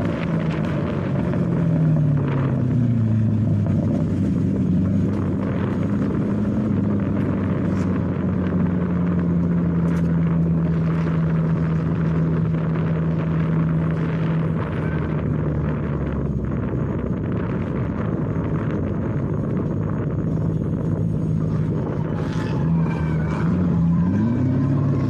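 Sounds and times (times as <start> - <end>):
car engine running: 0.0 - 25.0
rushing wind-like noise: 0.0 - 25.0.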